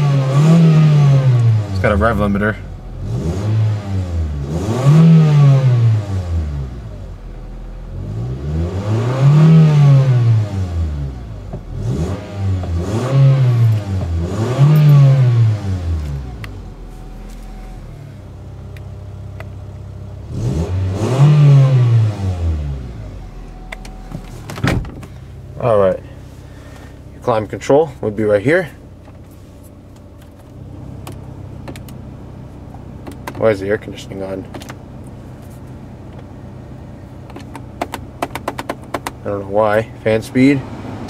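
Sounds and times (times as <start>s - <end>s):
car engine idling: 0.0s - 41.0s
car engine revving: 0.0s - 41.0s.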